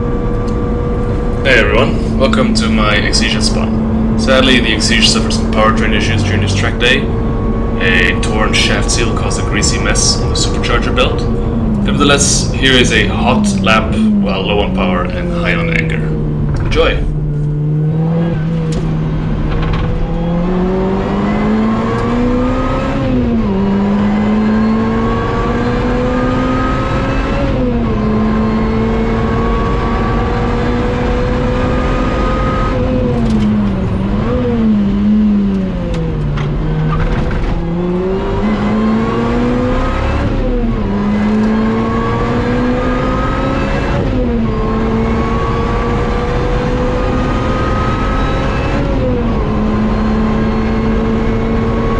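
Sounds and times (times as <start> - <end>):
car engine at full throttle: 0.0 - 51.9.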